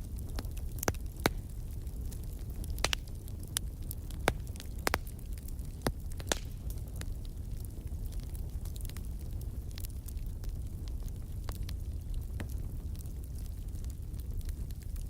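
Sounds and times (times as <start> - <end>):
fire flames rumbling: 0.0 - 15.0
logs crackling and popping: 0.0 - 15.0.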